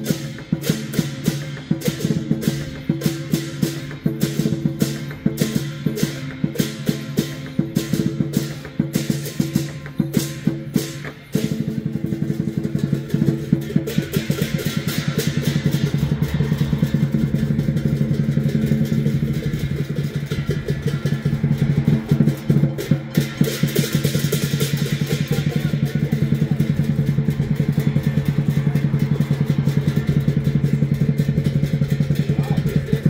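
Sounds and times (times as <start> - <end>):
cymbals crashing: 0.0 - 33.0
drum beating: 0.0 - 33.0.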